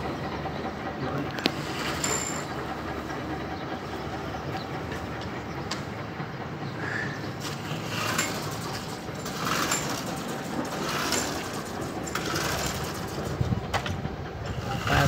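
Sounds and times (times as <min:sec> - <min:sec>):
lawn mower rattling: 0:00.0 - 0:05.9, 0:07.2 - 0:15.0.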